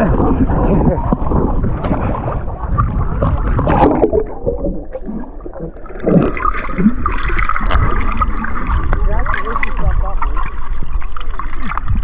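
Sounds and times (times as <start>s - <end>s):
bubbling splash: 0.0s - 12.0s
muffled underwater water sloshing: 0.0s - 12.0s.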